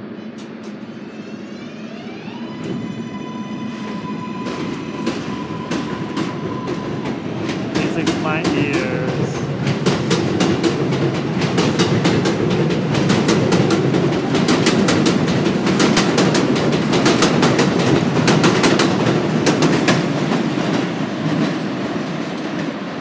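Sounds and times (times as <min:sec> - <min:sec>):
subway train rumble: 0:00.0 - 0:23.0.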